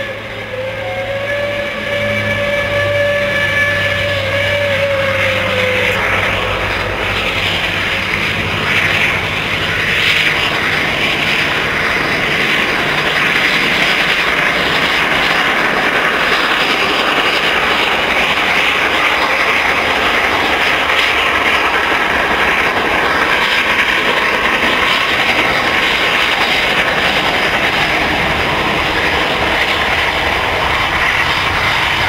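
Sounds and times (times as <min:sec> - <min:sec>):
distant steam locomotive rushing: 0:00.0 - 0:32.0.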